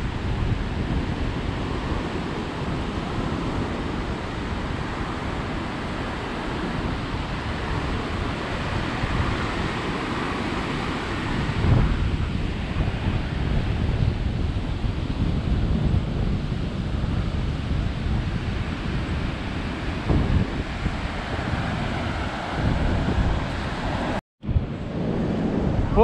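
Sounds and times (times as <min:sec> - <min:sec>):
surf washing up beach: 0:00.0 - 0:26.0
wind buffeting microphone: 0:00.0 - 0:26.0.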